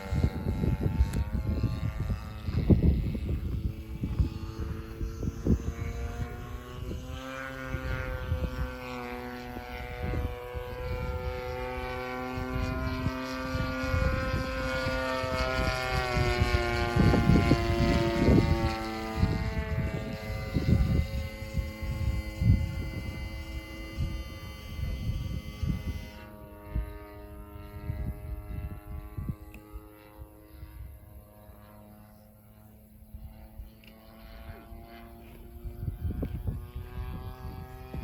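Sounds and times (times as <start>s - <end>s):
wind buffeting microphone: 0.0s - 32.1s, 32.8s - 38.0s
model plane engine droning: 0.0s - 38.0s.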